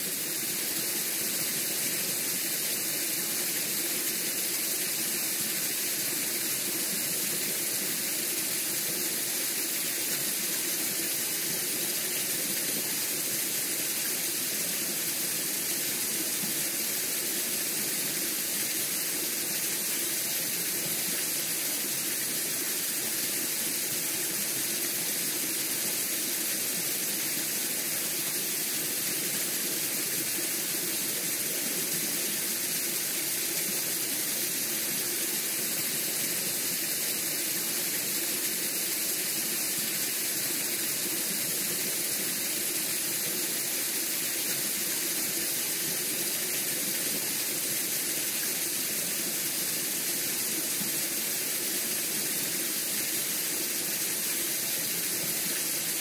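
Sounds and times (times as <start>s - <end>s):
stream flowing over pebbles: 0.0s - 56.0s.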